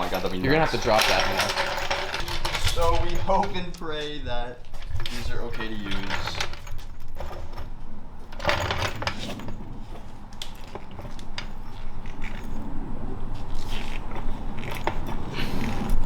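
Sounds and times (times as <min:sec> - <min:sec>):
metal jack clinking and scraping: 0:00.0 - 0:12.8, 0:13.5 - 0:16.0.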